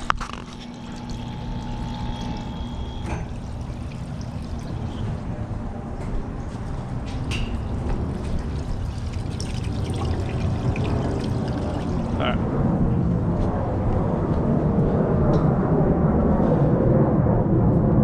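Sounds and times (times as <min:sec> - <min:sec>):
aircraft rumble passing: 0:00.0 - 0:18.0.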